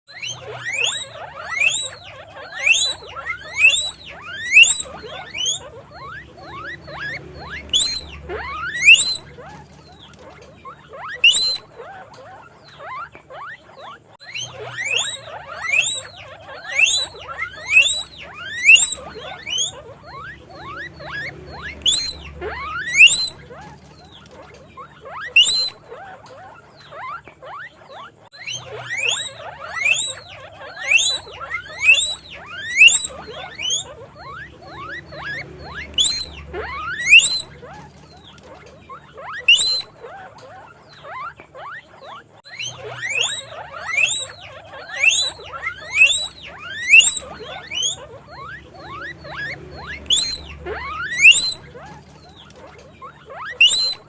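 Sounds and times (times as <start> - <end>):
guinea pig squeaking: 0.1 - 54.0.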